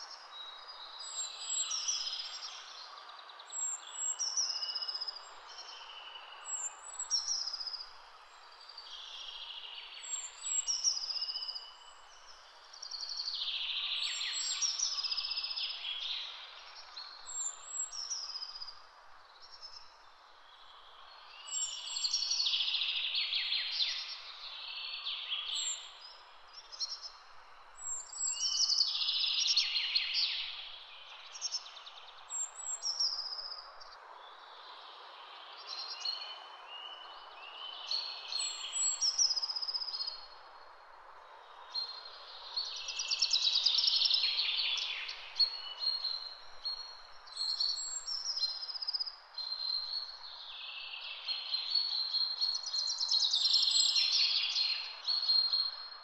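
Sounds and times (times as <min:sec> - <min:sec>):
soft steady hiss: 0:00.0 - 0:56.0.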